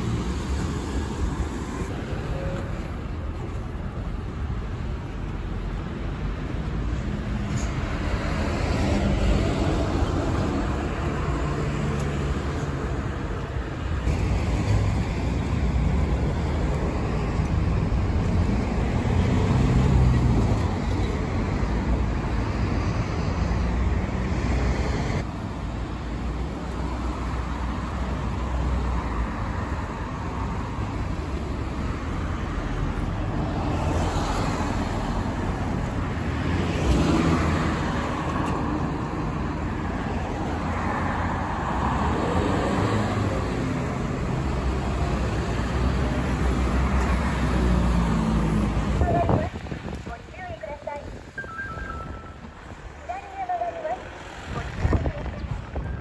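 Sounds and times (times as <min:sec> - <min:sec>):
car and truck engines: 0:00.0 - 0:56.0
tyre noise of passing vehicles: 0:00.0 - 0:56.0.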